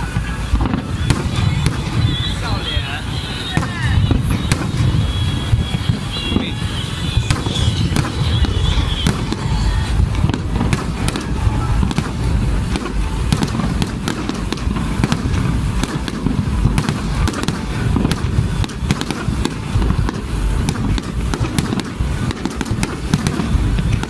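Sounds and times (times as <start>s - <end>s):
firework booms: 0.0s - 24.0s
firework crackles: 0.0s - 24.0s.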